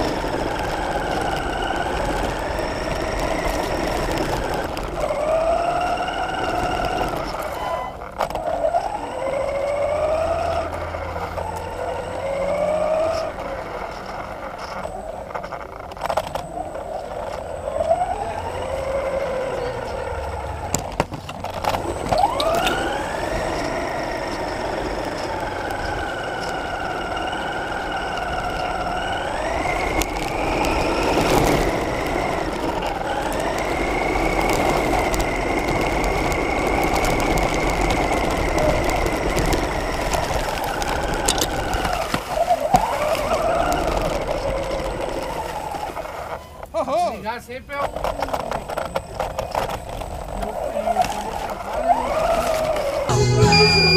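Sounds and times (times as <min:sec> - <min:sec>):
model car motor whining: 0:00.0 - 0:53.9
tyre and ground noise: 0:00.0 - 0:53.9.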